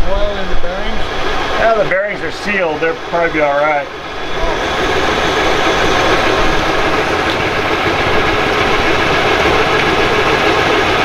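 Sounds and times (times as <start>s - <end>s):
mechanical running hum: 0.0s - 11.0s
propeller air rush: 0.0s - 11.0s.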